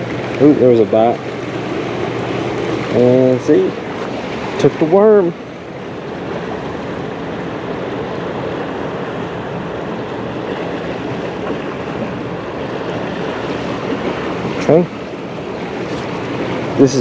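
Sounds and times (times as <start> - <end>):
turbulent river water rushing: 0.0 - 17.0.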